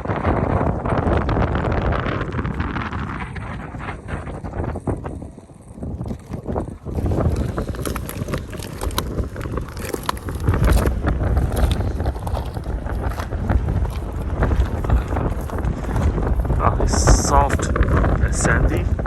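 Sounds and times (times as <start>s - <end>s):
crackles and clicks: 0.0s - 19.0s
wind buffeting microphone: 0.0s - 19.0s.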